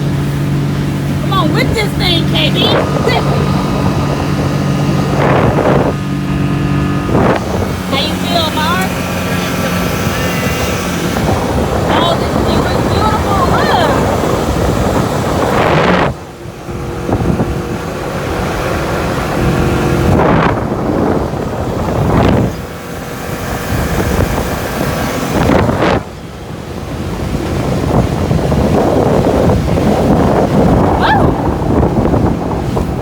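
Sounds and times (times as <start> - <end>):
rushing water: 0.0 - 33.0
speedboat engine hum: 0.0 - 33.0
wind buffeting on microphone: 0.0 - 33.0.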